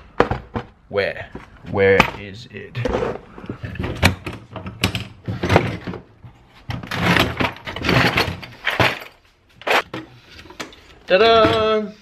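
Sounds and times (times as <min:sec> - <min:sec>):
tools and small parts clattering: 0:00.2 - 0:11.8.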